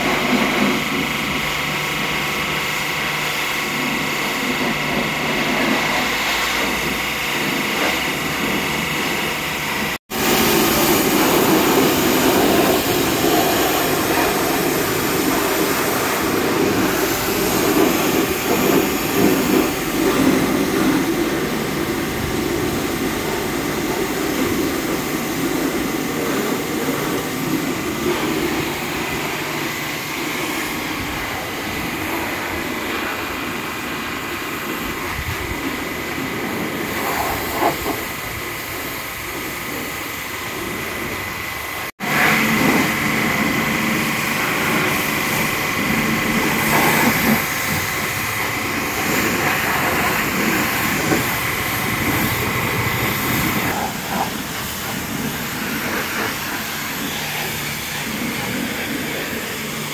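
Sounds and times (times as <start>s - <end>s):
pump motor humming: 0.0s - 59.9s
water jet hissing: 0.0s - 59.9s.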